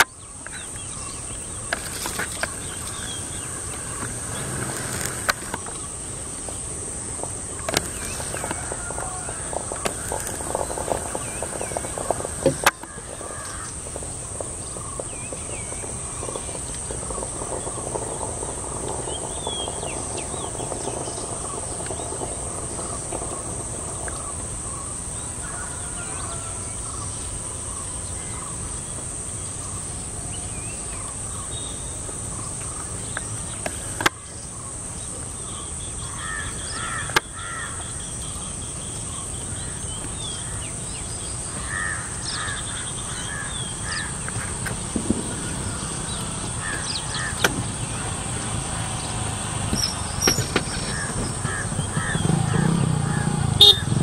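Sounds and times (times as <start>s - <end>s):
steady high hiss: 0.0s - 54.0s
wild birds calling: 0.0s - 54.0s.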